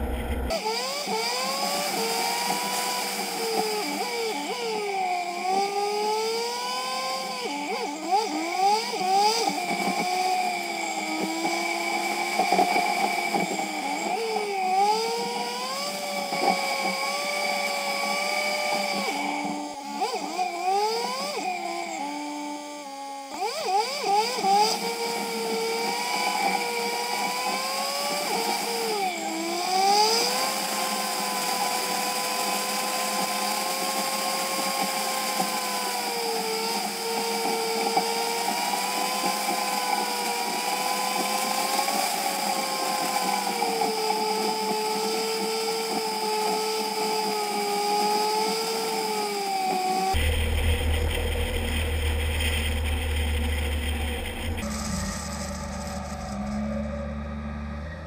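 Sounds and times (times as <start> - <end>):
vehicle engine whine: 0.0 - 58.0.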